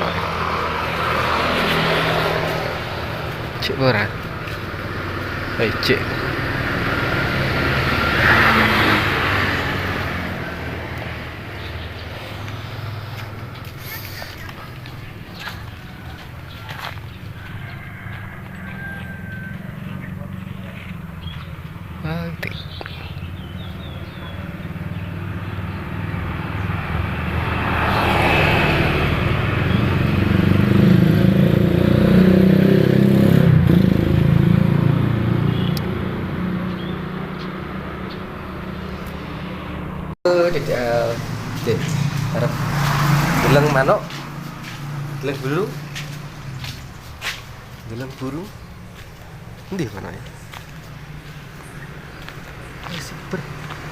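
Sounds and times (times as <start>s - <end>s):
motor vehicle passing: 0.0s - 53.9s.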